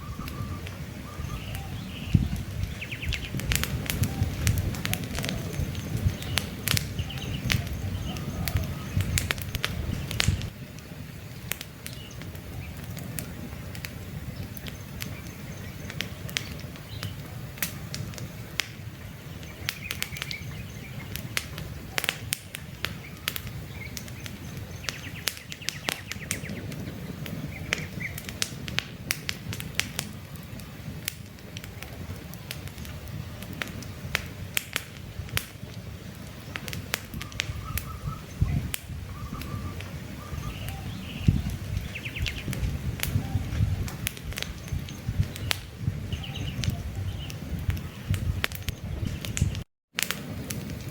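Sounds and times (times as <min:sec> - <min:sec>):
birds chirping: 0:00.0 - 0:28.5, 0:35.6 - 0:49.6
campfire crackling and popping: 0:00.0 - 0:50.9.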